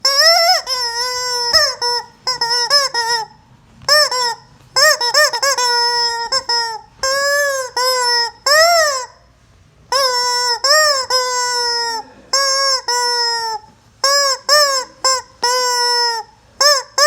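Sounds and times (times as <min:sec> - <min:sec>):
squeaky chicken toy squawking: 0:00.0 - 0:09.3, 0:09.9 - 0:17.0.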